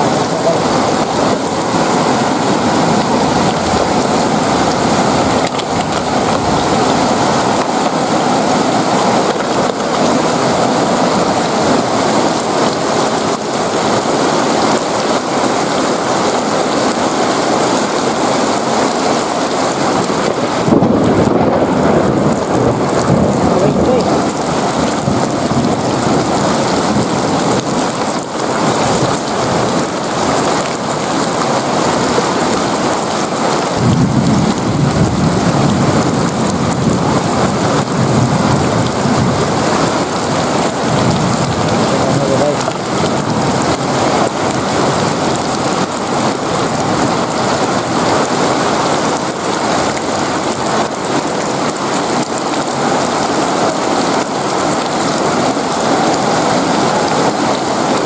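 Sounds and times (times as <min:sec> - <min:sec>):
heavy rain on wet paving: 0:00.0 - 0:58.0.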